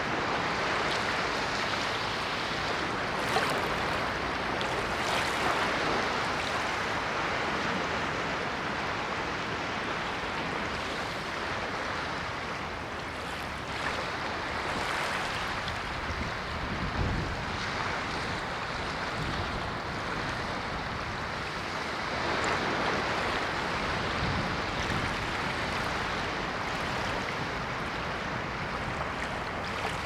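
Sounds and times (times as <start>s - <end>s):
ocean waves washing ashore: 0.0s - 30.0s.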